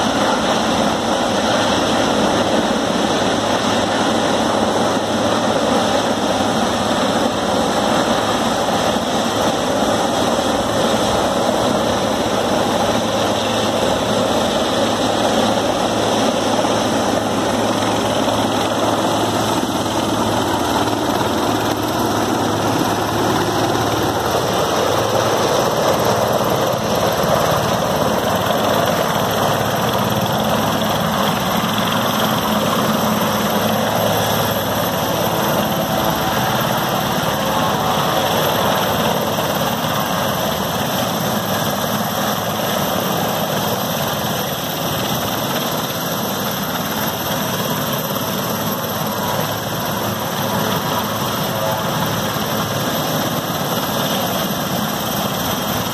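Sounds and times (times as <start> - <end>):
helicopter rotor drone: 0.0 - 55.9.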